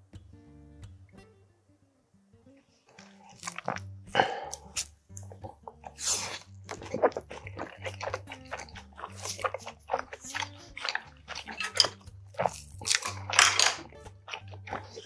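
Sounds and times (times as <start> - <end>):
quiet background music: 0.0 - 15.0
crunching and wet chewing: 2.8 - 15.0.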